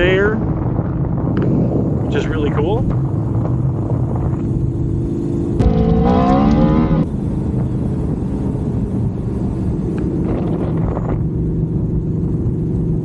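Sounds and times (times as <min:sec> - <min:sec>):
motorcycle engine cruising: 0:00.0 - 0:13.0
wind rumble on microphone: 0:00.0 - 0:13.0.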